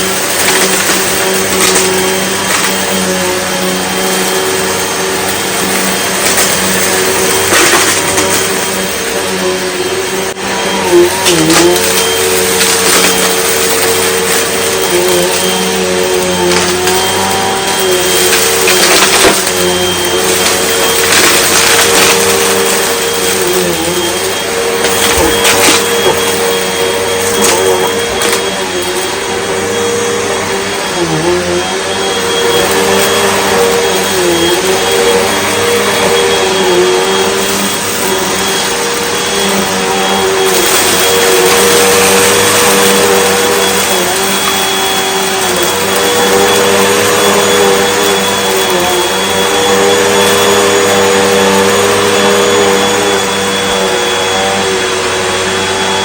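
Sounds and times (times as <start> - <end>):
debris clicking in vacuum: 0.0 - 9.4, 10.4 - 30.8, 37.0 - 52.3
vacuum cleaner running: 0.0 - 56.0.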